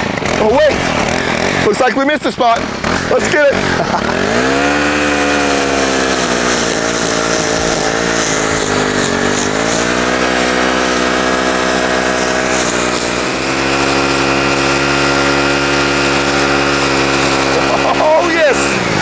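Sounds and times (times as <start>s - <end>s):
string trimmer engine cutting: 0.0s - 19.0s.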